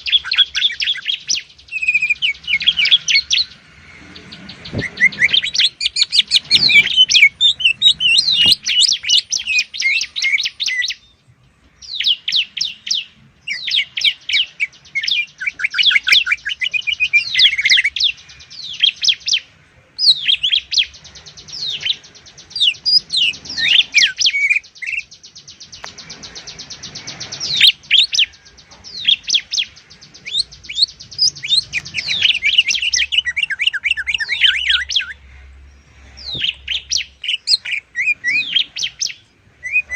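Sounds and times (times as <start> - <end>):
fast buzzy bird trill: 0.0 - 11.0, 12.0 - 35.2
birds singing chirps and whistles: 0.0 - 39.9.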